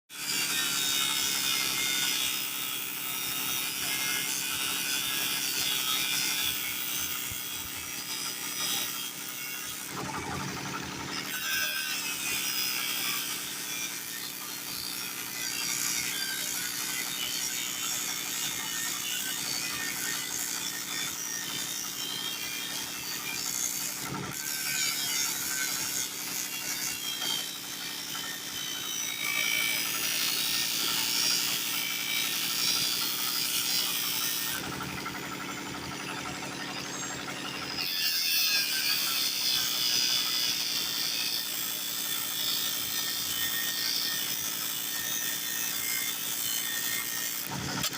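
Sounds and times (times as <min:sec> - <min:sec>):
power tool cutting wood: 0:00.1 - 0:47.9.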